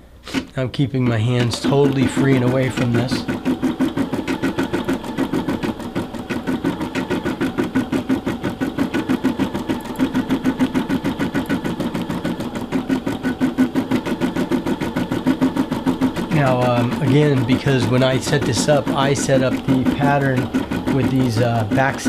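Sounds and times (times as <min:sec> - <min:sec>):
embroidery machine stitching: 0:00.0 - 0:22.0.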